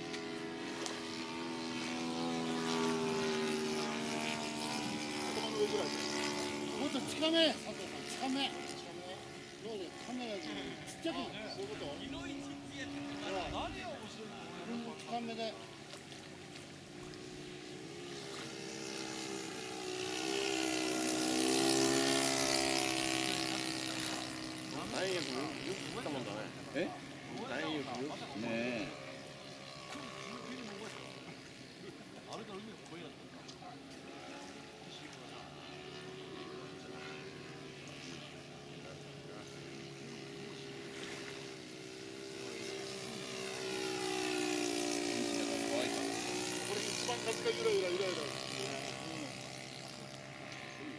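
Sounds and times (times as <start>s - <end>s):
model plane motor droning: 0.0s - 50.9s.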